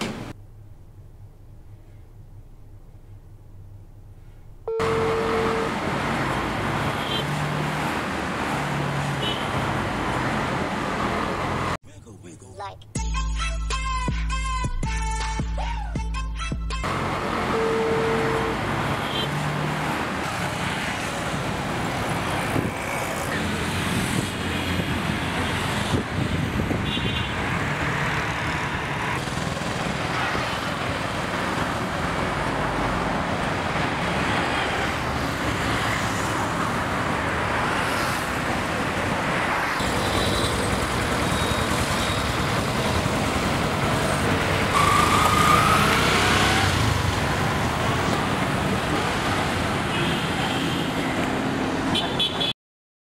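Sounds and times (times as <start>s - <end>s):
road traffic: 0.0s - 16.0s, 16.6s - 52.6s.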